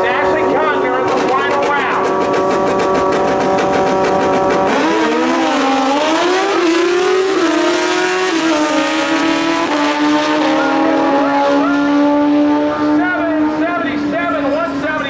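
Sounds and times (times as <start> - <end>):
motorcycles accelerating with upshifts: 0.0 - 14.9
motorcycle engines revving: 0.0 - 15.0.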